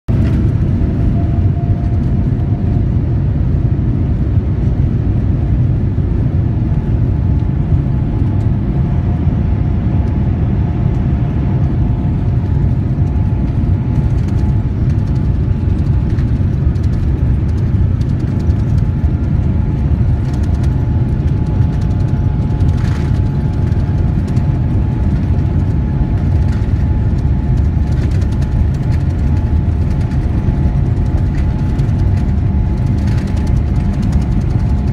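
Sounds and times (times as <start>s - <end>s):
faint engine whine: 0.1s - 34.9s
low rumble in airliner cabin: 0.1s - 34.9s.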